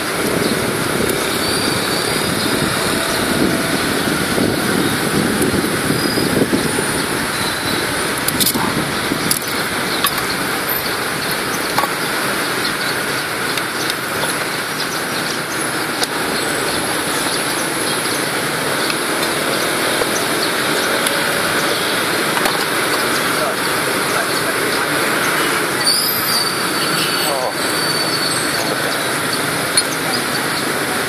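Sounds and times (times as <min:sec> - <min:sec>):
road traffic noise: 0:00.0 - 0:31.0.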